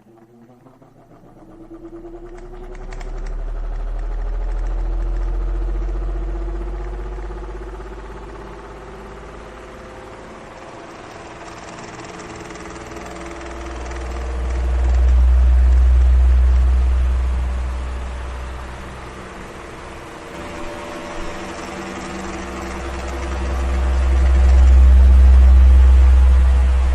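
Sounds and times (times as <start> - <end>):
electric fan running: 0.0 - 26.9.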